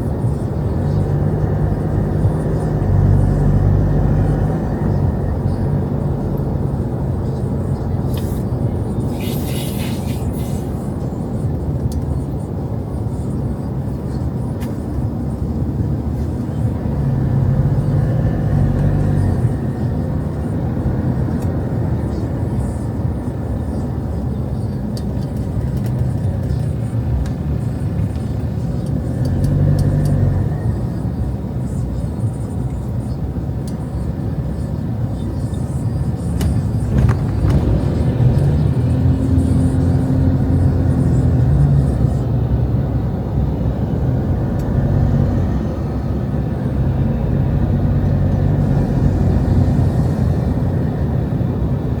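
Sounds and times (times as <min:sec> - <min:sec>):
cars passing on a street: 0:00.0 - 0:52.0.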